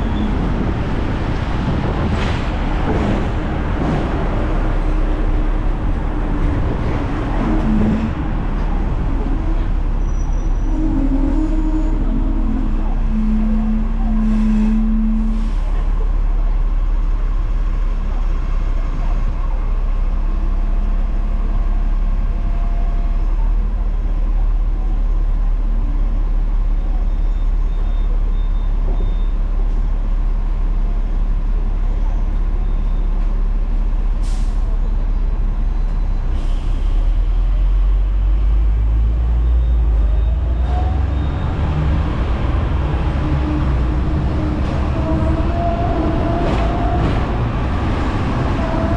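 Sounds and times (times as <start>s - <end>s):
tram rumbling: 0.0s - 48.9s.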